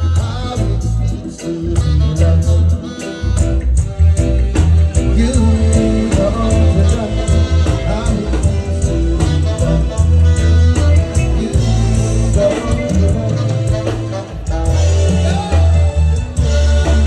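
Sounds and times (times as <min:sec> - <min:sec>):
bass line: 0:00.0 - 0:17.0
guitar: 0:00.0 - 0:17.0
drum beat: 0:00.1 - 0:17.0.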